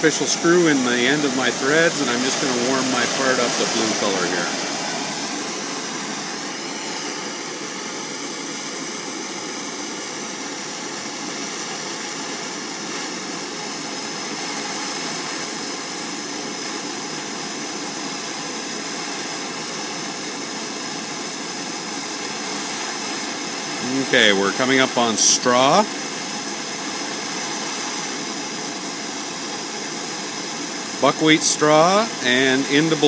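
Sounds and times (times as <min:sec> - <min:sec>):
gas torch hissing: 0:00.0 - 0:33.0.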